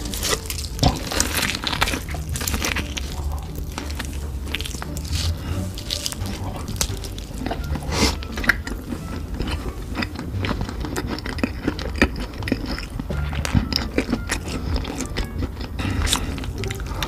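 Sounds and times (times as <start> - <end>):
person crunching food: 0.0 - 17.0.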